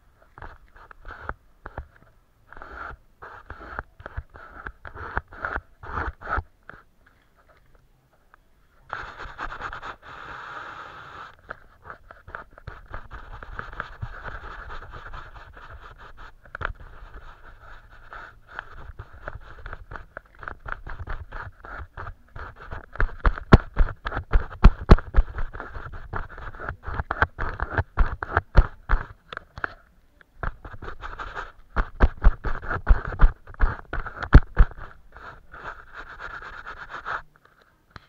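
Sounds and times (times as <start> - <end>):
brush strokes scratching on paper: 0.3 - 7.6, 8.8 - 29.8, 30.4 - 37.3.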